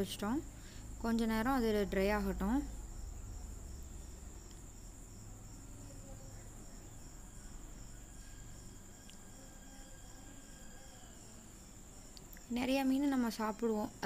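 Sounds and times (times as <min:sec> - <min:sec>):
faint insect chirping trill: 0:00.0 - 0:14.0.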